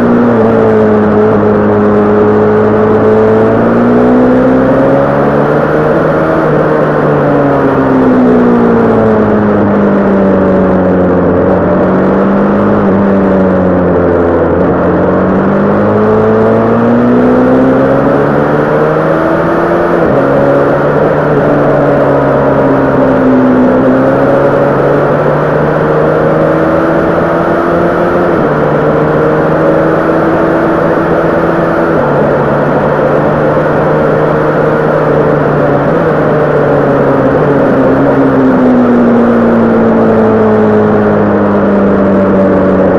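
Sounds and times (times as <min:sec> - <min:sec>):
motorcycle engine under way: 0:00.0 - 0:42.9.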